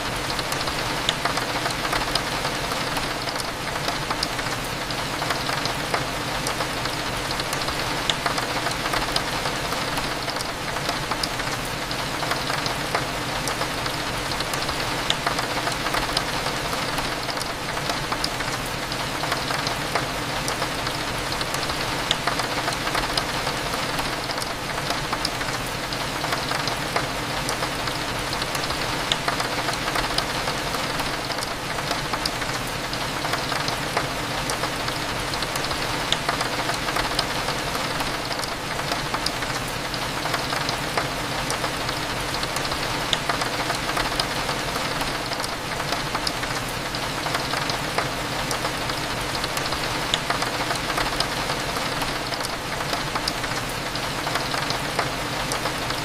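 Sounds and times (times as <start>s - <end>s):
rain drops ticking on window: 0.0s - 56.0s.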